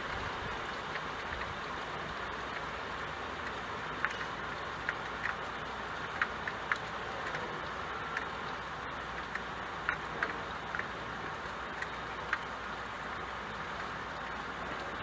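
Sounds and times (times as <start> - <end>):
rain falling: 0.0 - 15.0
sharp drip ticks: 0.0 - 15.0.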